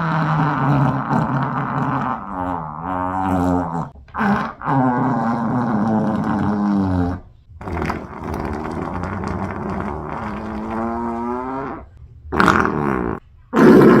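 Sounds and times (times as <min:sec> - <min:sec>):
long pitched fart: 0:00.0 - 0:14.0.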